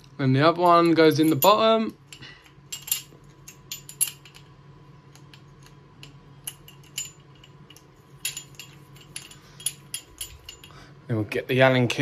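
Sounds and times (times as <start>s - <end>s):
small metal parts clinking: 0.6s - 10.8s.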